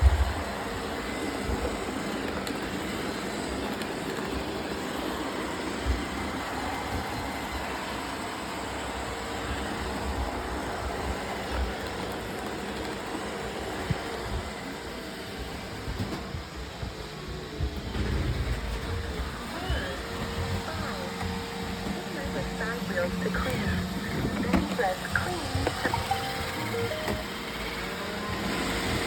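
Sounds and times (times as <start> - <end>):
robotic vacuum whirring: 0.0 - 29.0.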